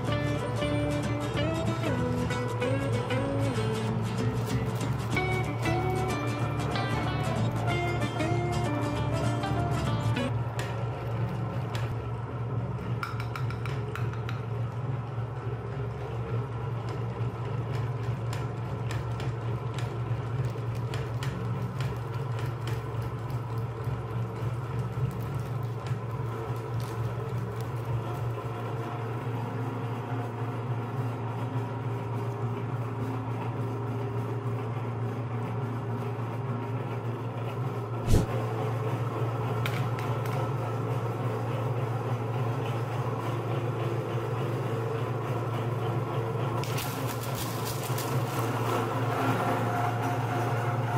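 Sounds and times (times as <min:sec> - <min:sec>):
meat grinder motor humming: 0:00.0 - 0:50.9.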